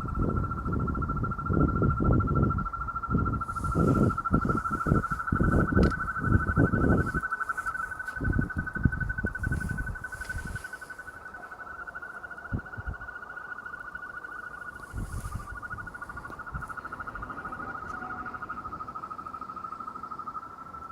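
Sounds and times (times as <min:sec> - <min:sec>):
frogs trilling: 0:00.0 - 0:20.9.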